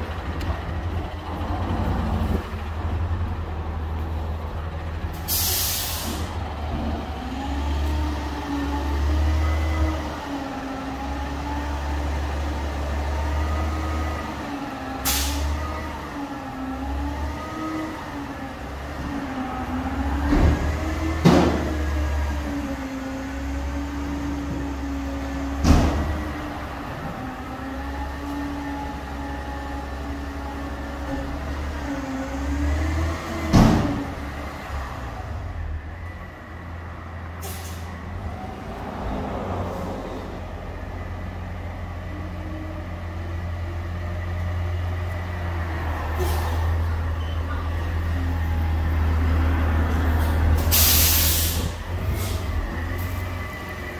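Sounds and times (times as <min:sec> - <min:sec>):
garbage truck diesel engine: 0:00.0 - 0:53.9.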